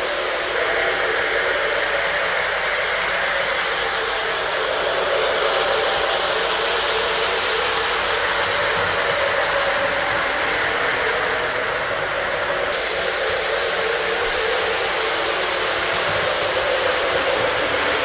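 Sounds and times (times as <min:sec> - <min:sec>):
model train motor and wheels whirring: 0:00.0 - 0:18.0.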